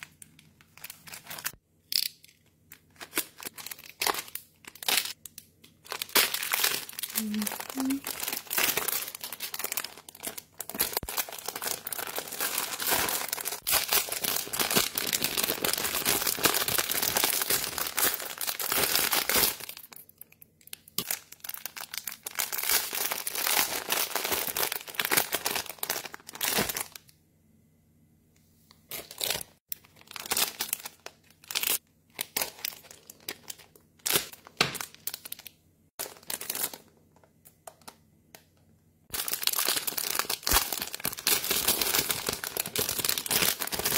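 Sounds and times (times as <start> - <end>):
packaging crinkling and tearing: 0.0 - 20.0, 20.7 - 27.0, 28.9 - 37.0, 39.1 - 43.9.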